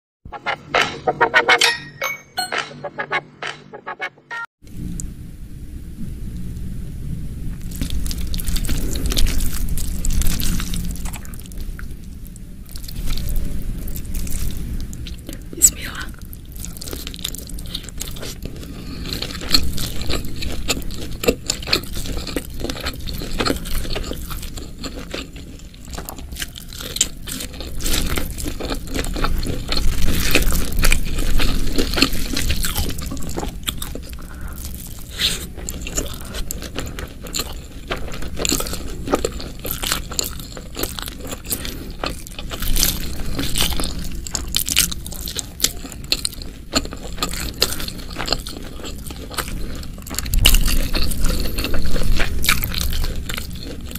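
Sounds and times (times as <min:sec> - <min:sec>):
crunchy chewing of food: 0:07.6 - 0:53.9.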